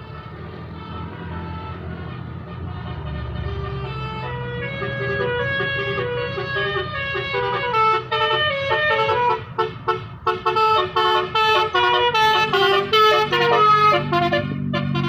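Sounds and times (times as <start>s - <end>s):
bus musical horn tune: 0.0s - 15.0s.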